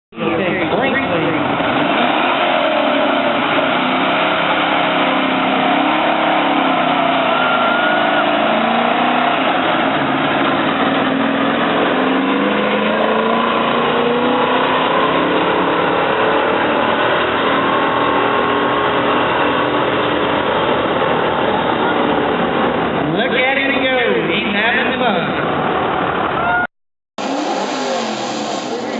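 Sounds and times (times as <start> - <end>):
truck engine revving: 0.2 - 26.6, 27.2 - 28.9.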